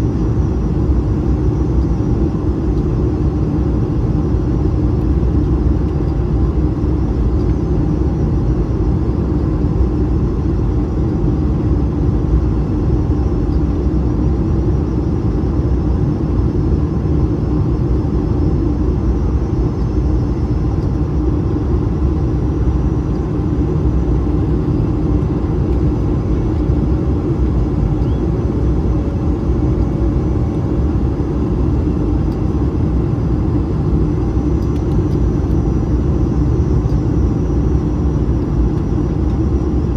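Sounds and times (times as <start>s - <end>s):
airplane cabin engine rumble: 0.0s - 39.9s
faint hum: 0.0s - 39.9s.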